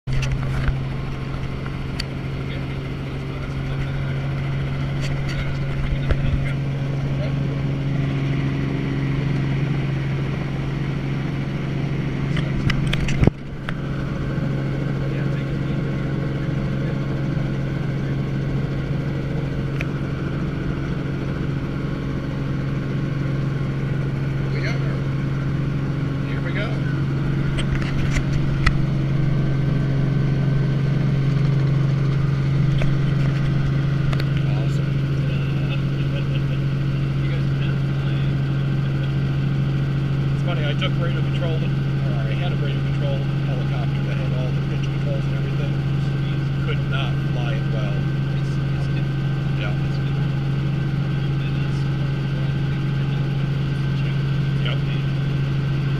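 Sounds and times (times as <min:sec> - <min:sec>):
helicopter running: 0:00.1 - 0:55.9.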